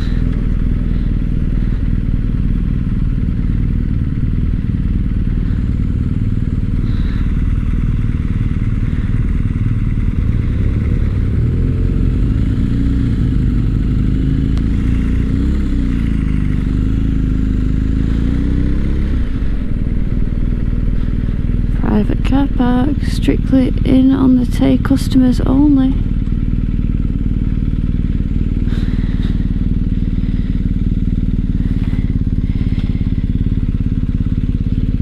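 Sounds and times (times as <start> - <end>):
motorcycle engine rumbling: 0.0 - 35.0.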